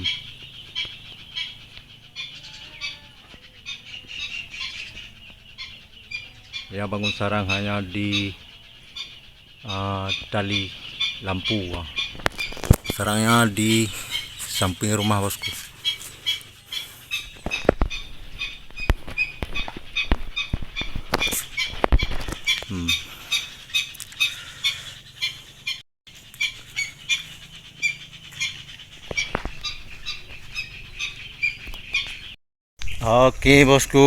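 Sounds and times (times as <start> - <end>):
bird chirping: 0.0 - 34.0.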